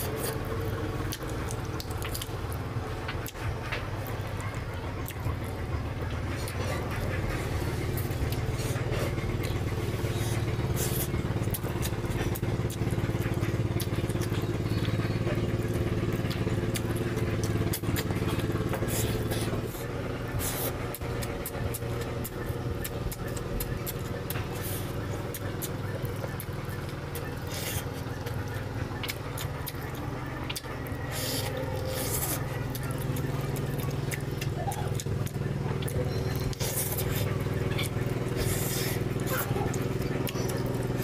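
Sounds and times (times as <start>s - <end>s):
low mechanical drone: 0.0s - 41.0s
wet chewing and mouth clicks: 0.0s - 41.0s.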